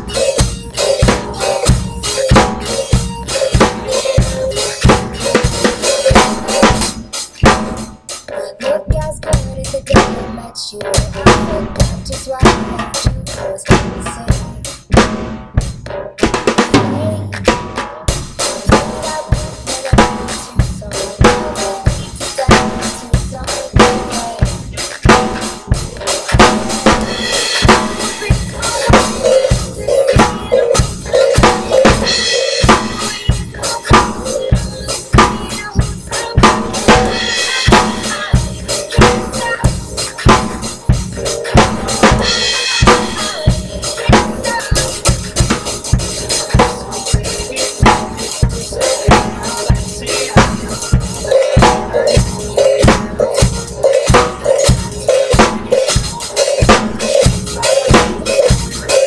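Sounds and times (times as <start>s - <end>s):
drum kit playing a beat: 0.0s - 59.0s.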